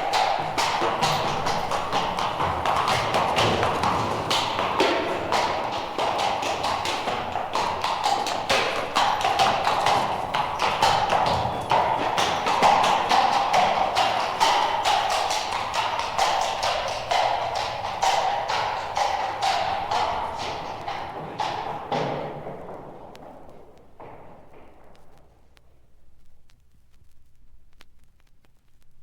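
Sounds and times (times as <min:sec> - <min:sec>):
clattering knocks and taps: 0:00.0 - 0:25.4.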